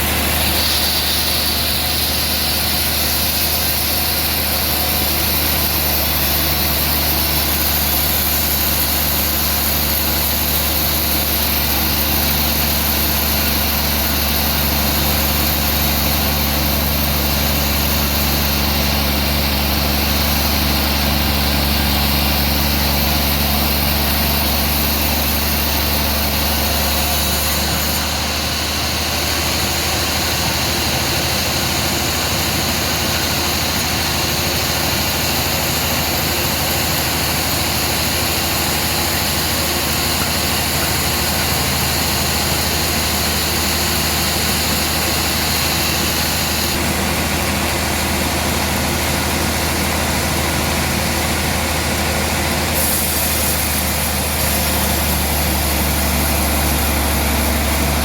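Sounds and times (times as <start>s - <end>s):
sawmill machinery hum and hiss: 0.0s - 58.0s.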